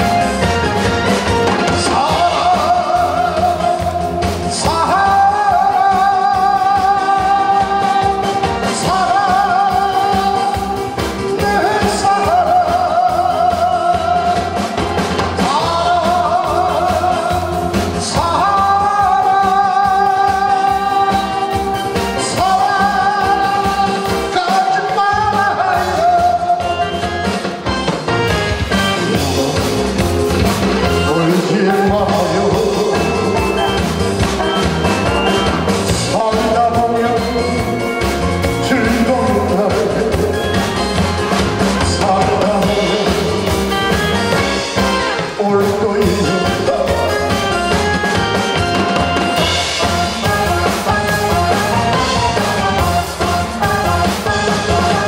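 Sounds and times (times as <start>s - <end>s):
backing track music: 0.0s - 55.0s
man singing into a microphone: 1.5s - 27.3s, 28.9s - 30.2s, 30.8s - 34.6s, 35.3s - 41.0s, 41.7s - 44.4s, 45.0s - 49.9s.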